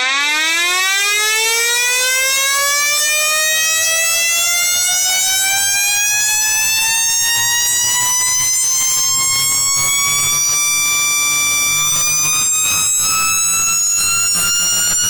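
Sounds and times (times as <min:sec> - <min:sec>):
electric siren wailing: 0:00.0 - 0:15.0.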